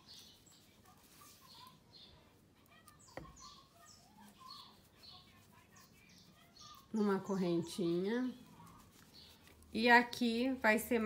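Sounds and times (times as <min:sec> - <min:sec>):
small bird chirps: 0:00.0 - 0:11.0.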